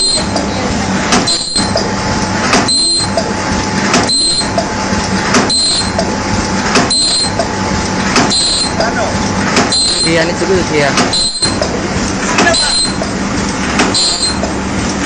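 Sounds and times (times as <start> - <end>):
machine clacking: 0.0 - 15.0
machine low hum: 0.0 - 15.0.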